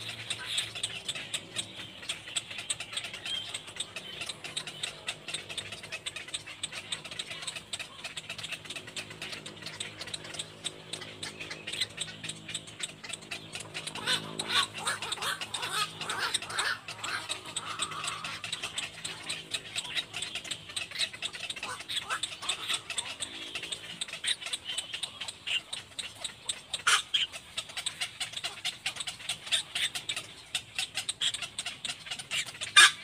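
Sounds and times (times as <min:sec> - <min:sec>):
bird chick rasping calls: 0:00.0 - 0:33.0.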